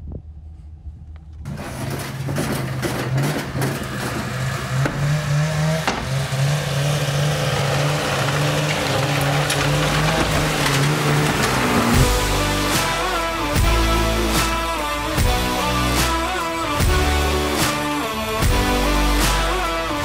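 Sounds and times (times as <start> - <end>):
snowmobile engine running: 1.4 - 20.0.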